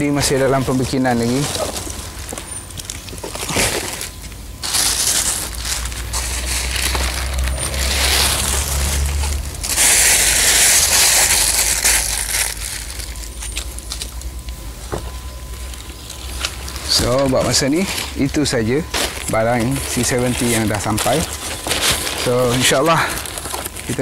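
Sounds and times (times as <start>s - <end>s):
plastic bags crinkling: 0.0s - 14.6s, 15.2s - 24.0s.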